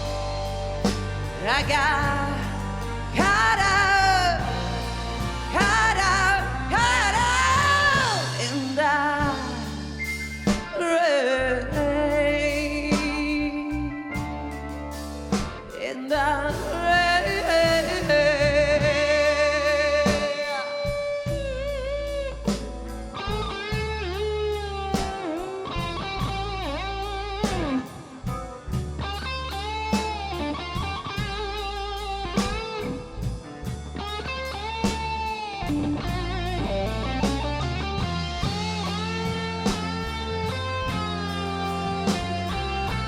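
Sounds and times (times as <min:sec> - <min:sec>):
blues band playing: 0:00.0 - 0:43.0
electric guitar solo: 0:00.0 - 0:43.0.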